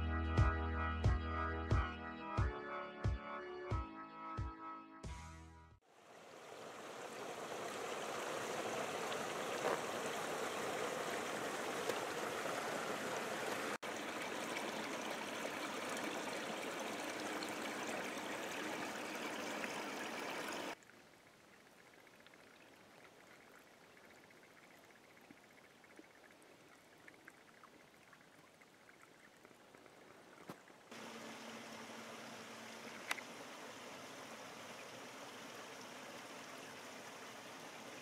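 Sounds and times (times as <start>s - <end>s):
creek water flowing: 5.8s - 38.0s.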